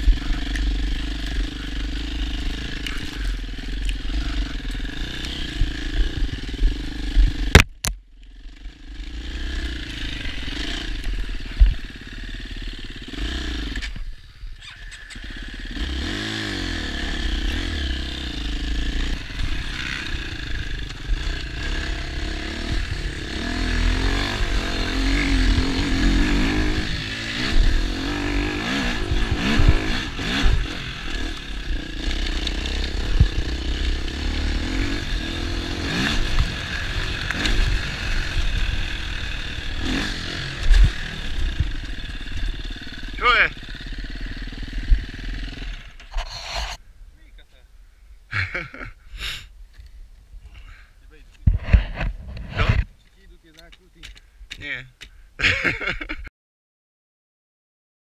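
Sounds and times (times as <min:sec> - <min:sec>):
motorcycle engine revving: 0:00.0 - 0:46.8.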